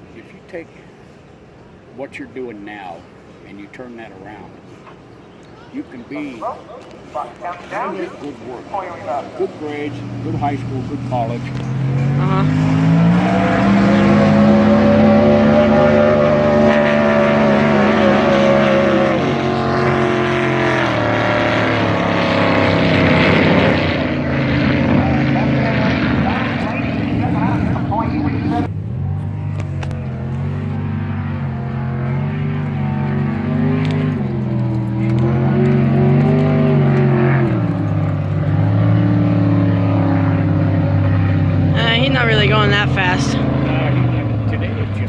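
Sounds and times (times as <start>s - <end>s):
racing boat engine at high revs: 5.7s - 45.0s.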